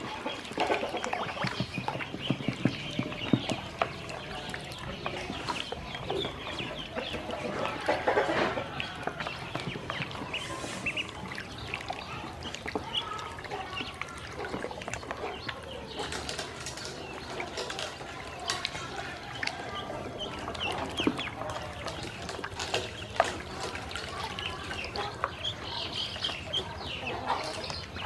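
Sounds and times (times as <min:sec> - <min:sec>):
ducklings peeping: 0:00.0 - 0:28.0
water splashing: 0:00.0 - 0:28.0.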